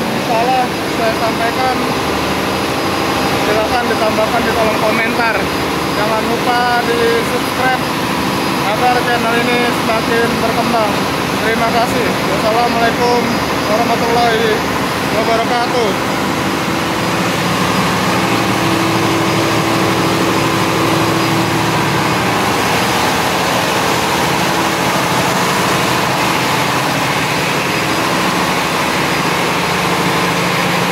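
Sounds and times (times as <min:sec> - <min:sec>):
diesel generator running: 0:00.0 - 0:30.9.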